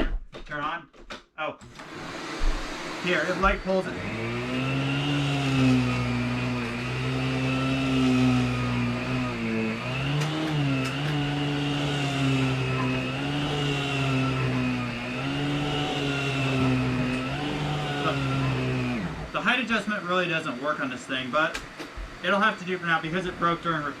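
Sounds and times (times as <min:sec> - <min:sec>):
vacuum cleaner running: 0:01.6 - 0:24.0.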